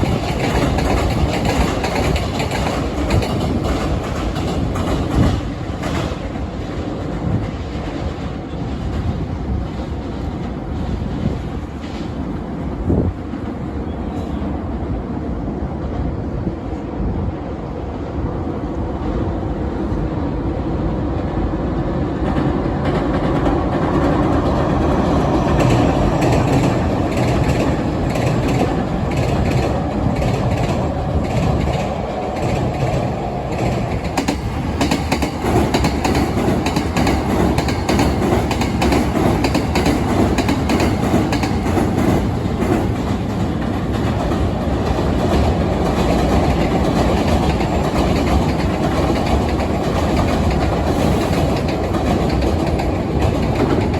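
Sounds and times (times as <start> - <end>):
train rumbling over bridge: 0.0 - 53.9.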